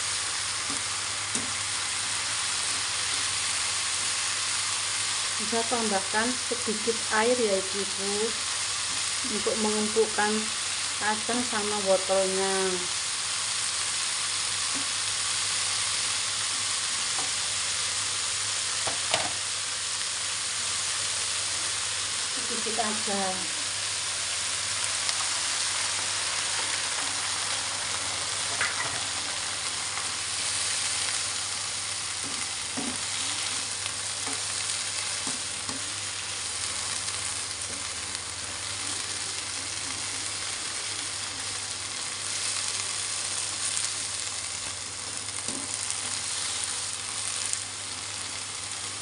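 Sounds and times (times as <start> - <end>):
stir-fry sizzling in frying pan: 0.0 - 49.0.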